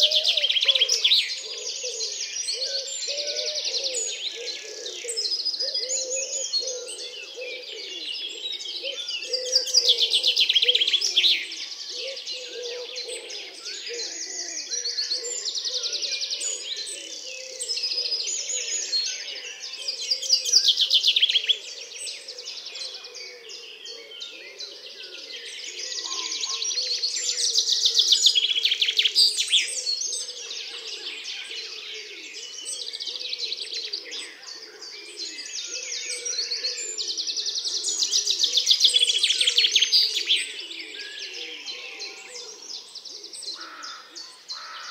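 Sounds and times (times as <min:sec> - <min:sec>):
pigeon cooing: 0:00.0 - 0:28.1, 0:28.9 - 0:44.0.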